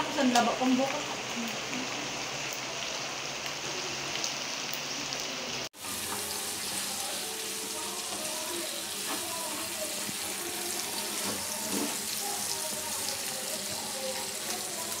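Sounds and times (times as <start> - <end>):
pork sizzling in a frying pan: 0.0 - 15.0.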